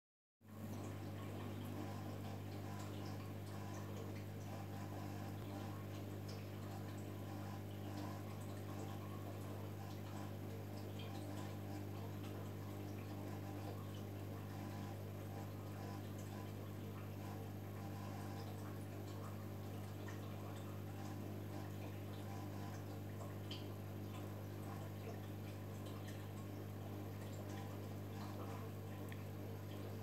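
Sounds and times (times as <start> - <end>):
aquarium filter hum: 0.5 - 30.0
small water drips: 0.5 - 30.0
water trickling: 0.5 - 30.0.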